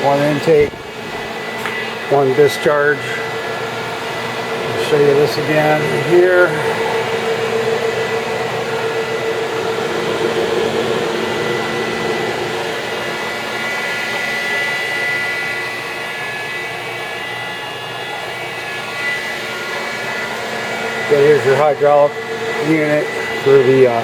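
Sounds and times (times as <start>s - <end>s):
lathe mechanical hum and whine: 0.0s - 24.0s.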